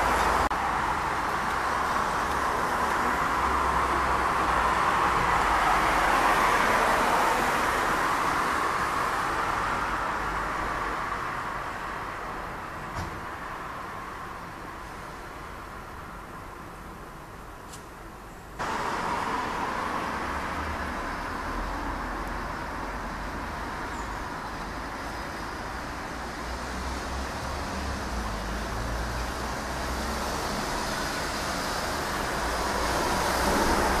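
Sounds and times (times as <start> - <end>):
city road traffic: 0.0 - 34.0.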